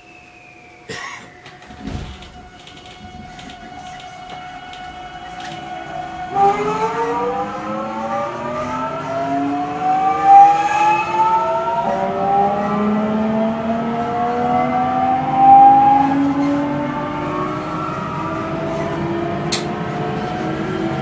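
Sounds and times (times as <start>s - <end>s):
electric train motors whining: 0.0s - 21.0s.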